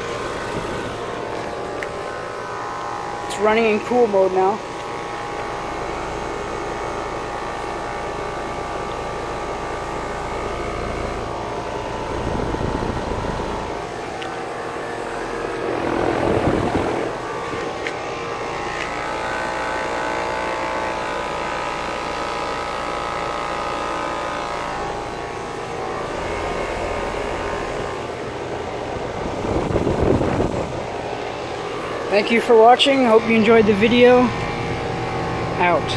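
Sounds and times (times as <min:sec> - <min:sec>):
compressor humming: 0:00.0 - 0:35.9
condenser fan rushing air: 0:00.0 - 0:35.9.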